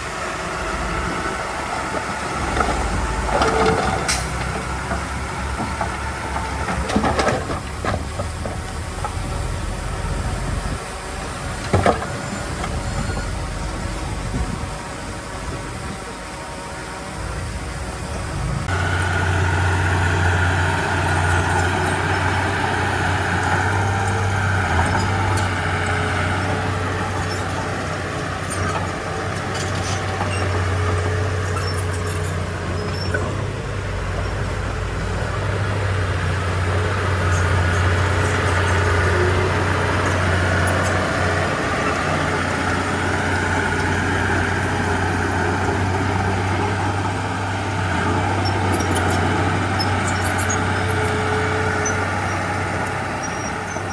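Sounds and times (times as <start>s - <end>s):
bulldozer diesel engine running: 0.0s - 53.9s.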